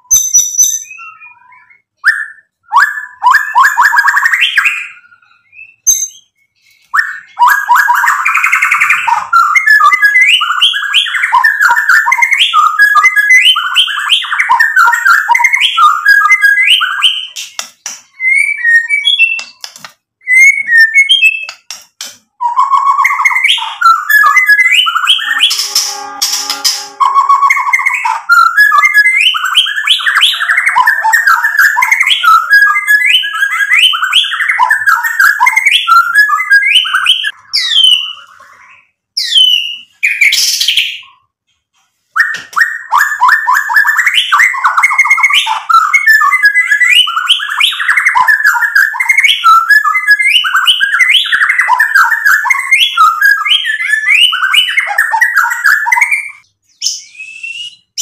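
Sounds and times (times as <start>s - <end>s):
bird singing trills: 0.0s - 41.3s, 42.2s - 58.0s.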